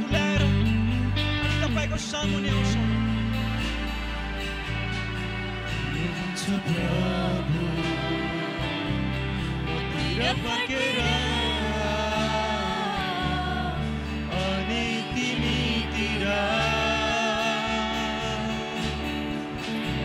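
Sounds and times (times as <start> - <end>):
sustained low bass notes: 0.0 - 20.0
voices singing slow melody: 2.2 - 20.0.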